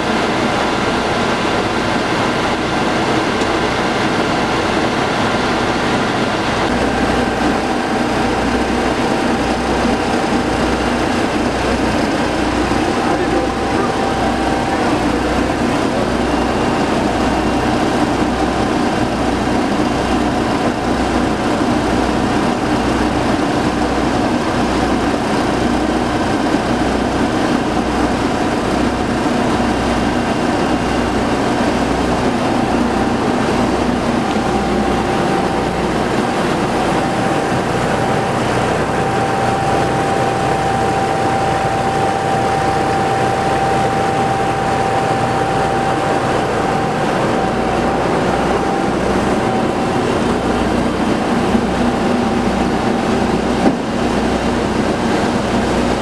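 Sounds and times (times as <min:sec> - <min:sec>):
diesel truck engine running: 0:00.0 - 0:56.0
steady whine: 0:00.0 - 0:56.0.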